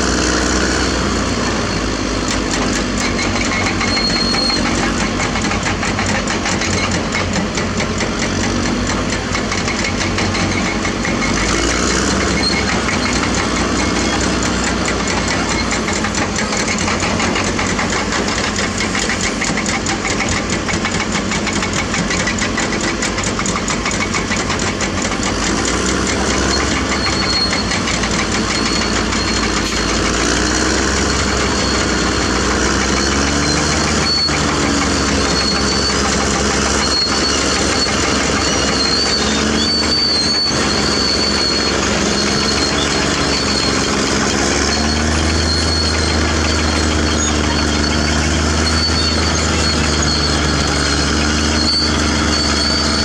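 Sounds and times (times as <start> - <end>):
bulldozer diesel engine chugging: 0.0 - 53.0.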